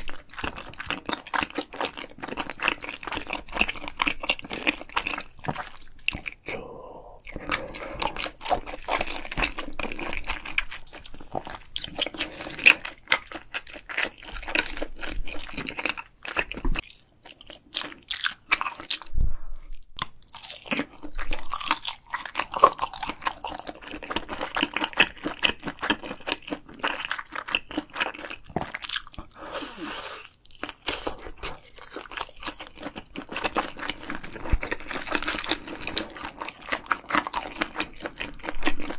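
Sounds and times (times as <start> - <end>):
person chewing and slurping noodles: 0.0 - 38.9.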